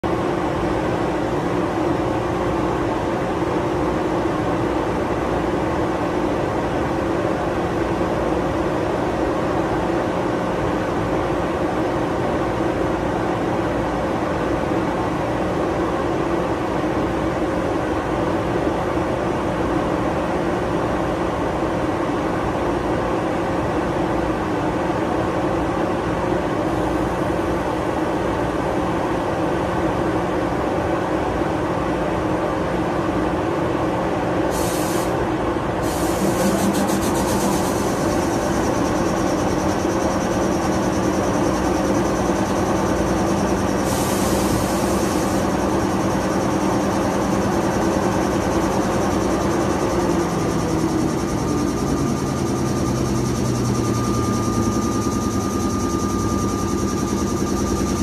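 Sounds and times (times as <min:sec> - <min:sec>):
electric train equipment hum: 0:00.0 - 0:58.0.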